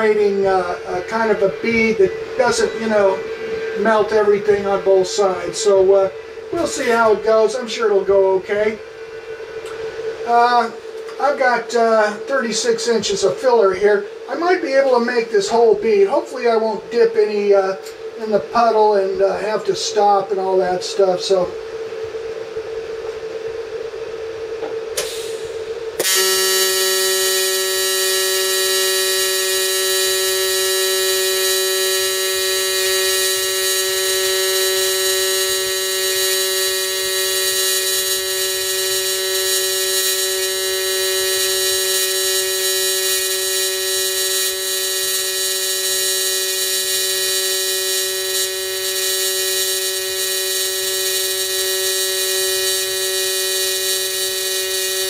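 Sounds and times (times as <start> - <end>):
welding arc buzzing: 0.0 - 15.8, 23.8 - 55.0.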